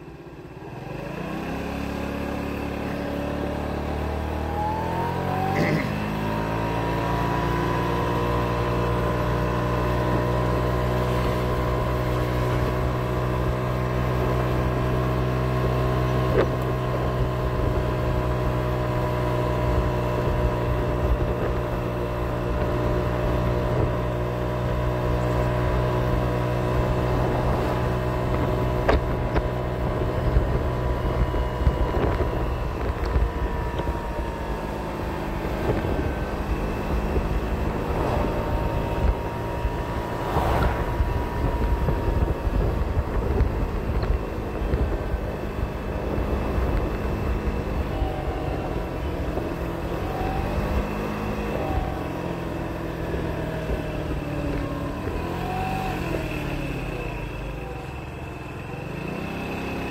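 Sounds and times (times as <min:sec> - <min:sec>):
moped engine accelerating: 0:00.0 - 0:59.9.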